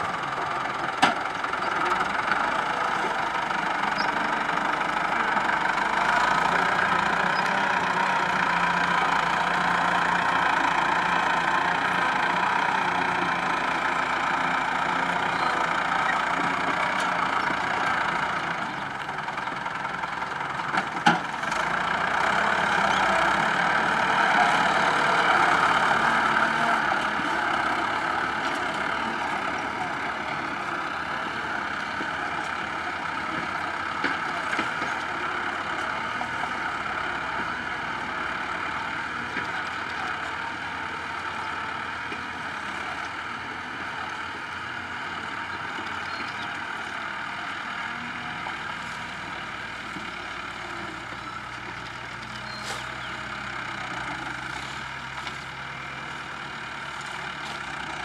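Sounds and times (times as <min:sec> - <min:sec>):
loader engine running: 0:00.0 - 0:58.0.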